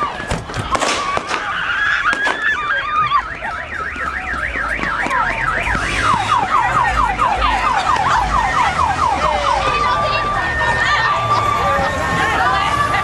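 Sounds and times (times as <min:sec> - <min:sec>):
emergency siren yelping: 0:00.0 - 0:13.0.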